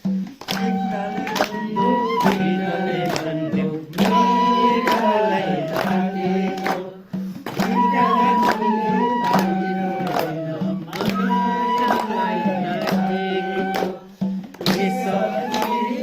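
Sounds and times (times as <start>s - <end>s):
strummed or beaten accompaniment: 0.0s - 16.0s
person singing melody: 0.4s - 16.0s.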